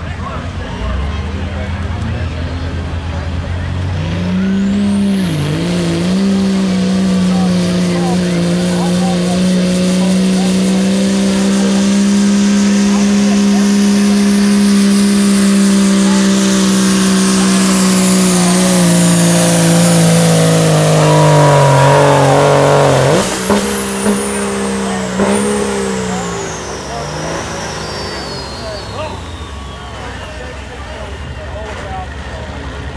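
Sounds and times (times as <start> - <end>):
diesel truck engine drone: 0.0 - 32.9
high whine: 4.3 - 31.0.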